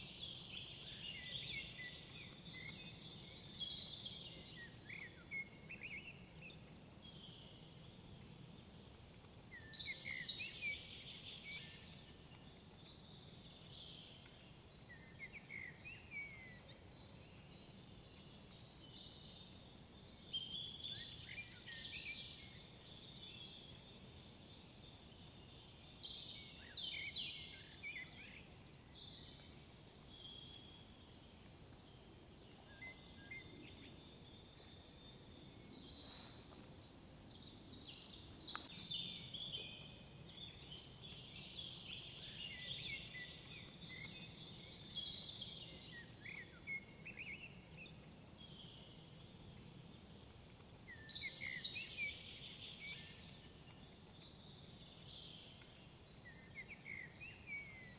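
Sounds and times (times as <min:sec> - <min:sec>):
songbirds singing: 0:00.0 - 0:57.9.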